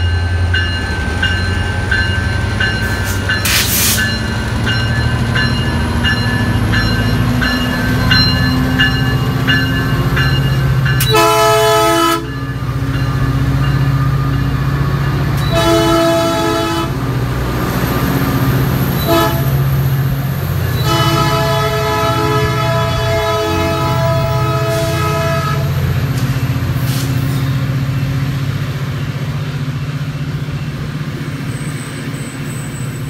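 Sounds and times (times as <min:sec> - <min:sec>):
diesel locomotive engine: 0:00.0 - 0:33.0
locomotive bell ringing: 0:00.0 - 0:33.0.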